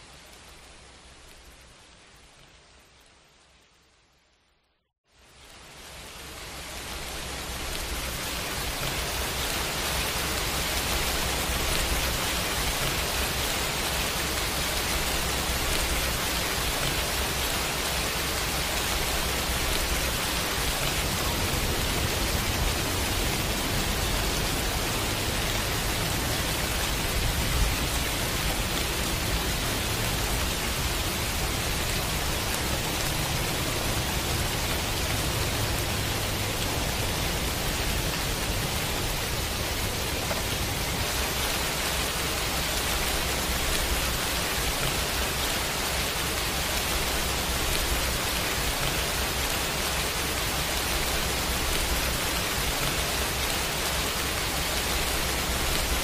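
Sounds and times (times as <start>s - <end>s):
pouring rain: 0.0s - 56.0s.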